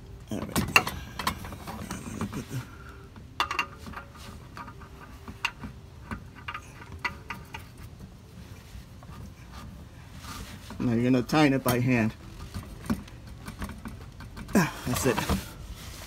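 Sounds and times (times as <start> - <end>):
oil filter clicking and scraping: 0.3 - 16.0.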